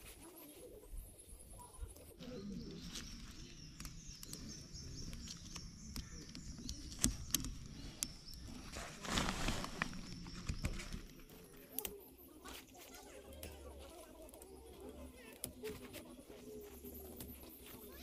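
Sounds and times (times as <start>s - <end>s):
birds chirping rapidly: 1.2s - 18.0s.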